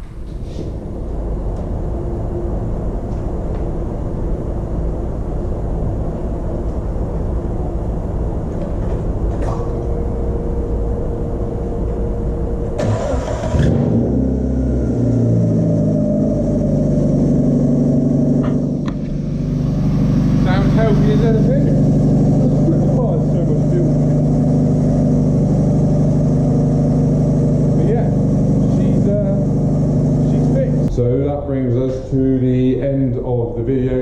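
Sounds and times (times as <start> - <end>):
car engine running and revving: 0.9 - 31.2.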